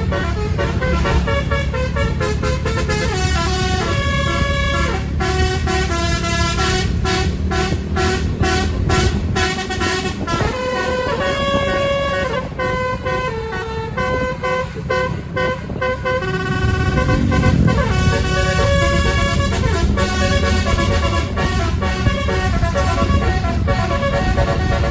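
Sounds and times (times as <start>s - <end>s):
bus engine noise: 0.0s - 24.9s
bus horn playing a tune: 0.0s - 24.9s.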